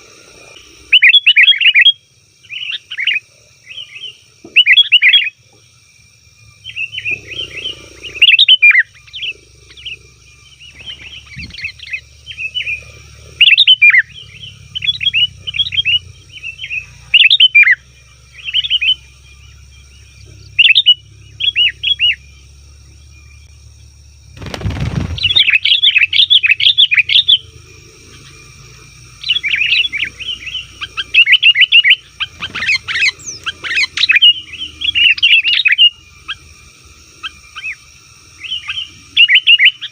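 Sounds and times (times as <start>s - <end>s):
bulbul chirping song: 0.0s - 39.9s
faint high hum: 0.0s - 39.9s.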